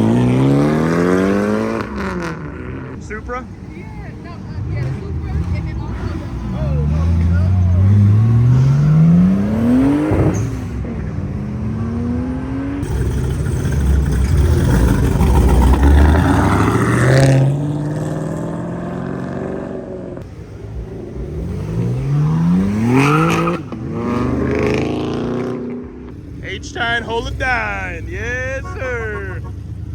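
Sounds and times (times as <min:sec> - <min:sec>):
cars accelerating hard: 0:00.0 - 0:03.4, 0:04.2 - 0:29.9.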